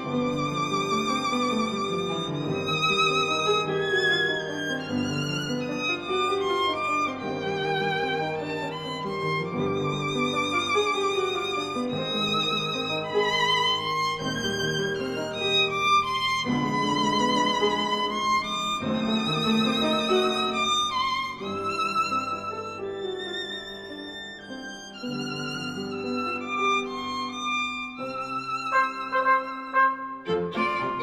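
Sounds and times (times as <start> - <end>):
violin melody with vibrato: 0.0 - 31.0.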